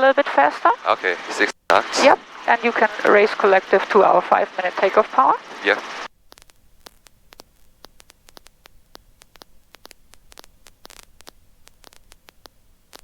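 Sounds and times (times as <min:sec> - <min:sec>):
static clicks: 0:00.0 - 0:13.0.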